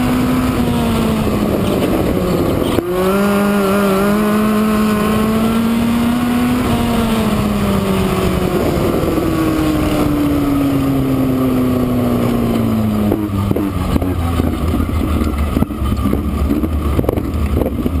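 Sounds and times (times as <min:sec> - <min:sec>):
race car engine: 0:00.0 - 0:18.0.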